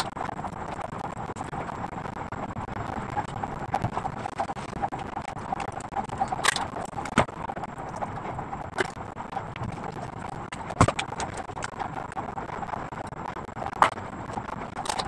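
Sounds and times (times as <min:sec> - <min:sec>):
small clicks: 0:00.0 - 0:15.0
steady background noise: 0:00.0 - 0:15.0.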